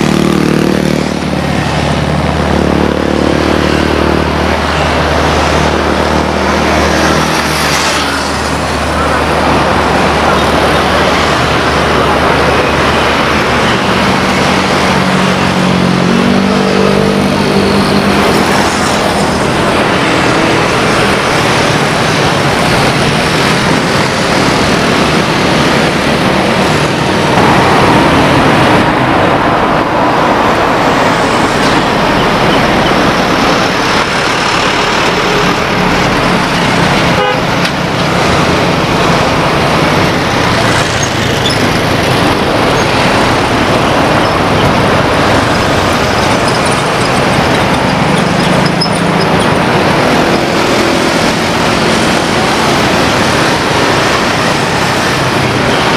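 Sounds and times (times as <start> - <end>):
traffic noise: 0.0 - 55.9.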